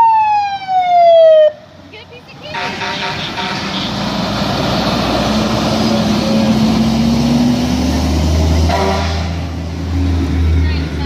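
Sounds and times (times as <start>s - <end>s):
fire engine driving past: 0.0s - 11.0s.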